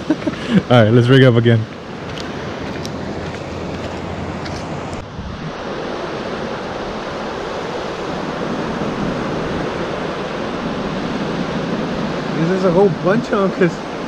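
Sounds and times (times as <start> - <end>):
surf breaking on beach: 0.0 - 14.0
wind on microphone: 1.5 - 13.1.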